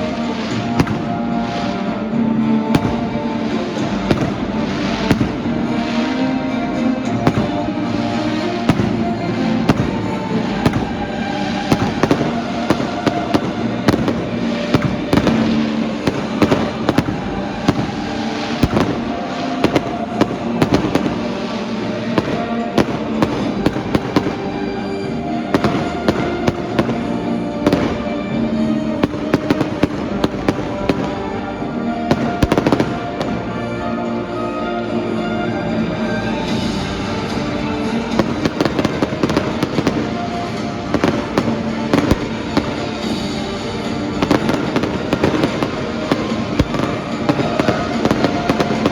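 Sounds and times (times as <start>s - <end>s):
fireworks bangs and crackles: 0.0s - 48.9s
music playing: 0.0s - 48.9s.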